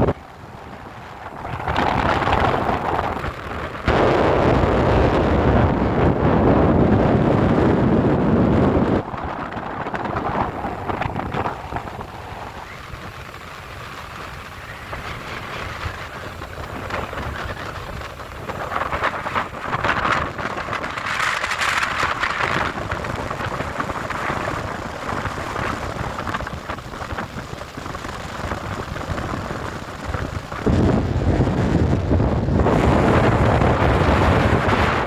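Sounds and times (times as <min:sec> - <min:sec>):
sea surf: 0:00.0 - 0:35.0
strong wind: 0:00.0 - 0:35.0
wind buffeting microphone: 0:00.0 - 0:35.0.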